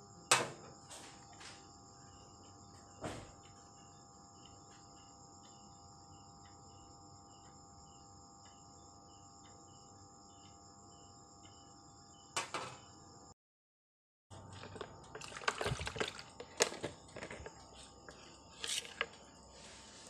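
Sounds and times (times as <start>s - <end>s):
insects chirping: 0.0s - 13.4s, 14.3s - 20.0s.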